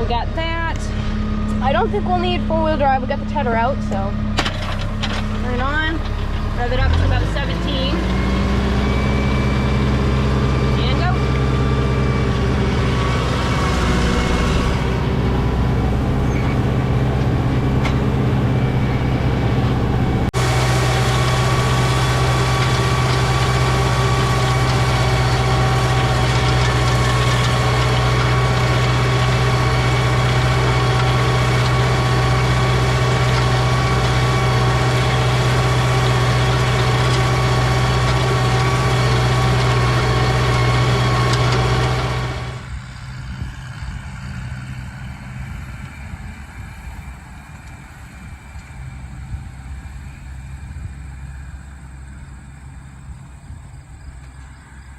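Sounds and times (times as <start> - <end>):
tractor engine running at high revs: 0.0 - 54.9.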